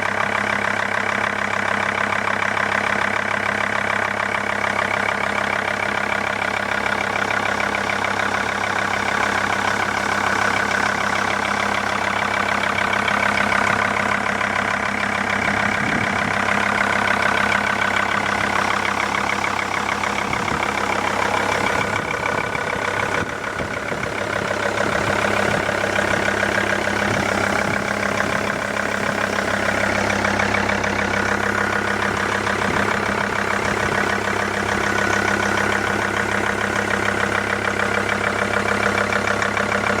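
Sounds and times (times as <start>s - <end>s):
car engine idling with knocking: 0.0s - 40.0s.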